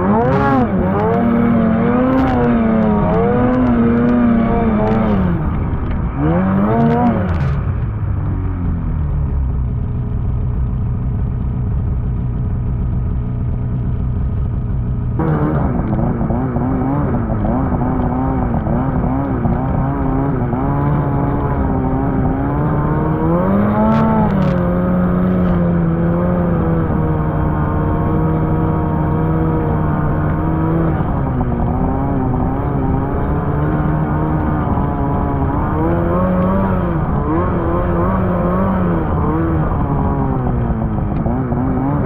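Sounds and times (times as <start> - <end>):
snowmobile engine revving: 0.0 - 7.8, 15.2 - 42.0.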